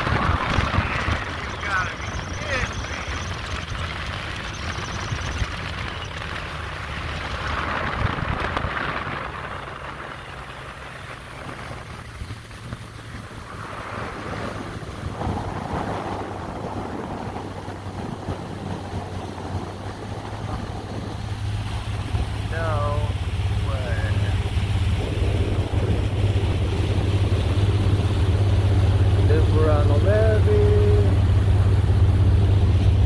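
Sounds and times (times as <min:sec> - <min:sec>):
boat engine drone: 0:00.0 - 0:33.0
water rushing past hull: 0:00.0 - 0:33.0
wind buffeting microphone: 0:00.0 - 0:33.0.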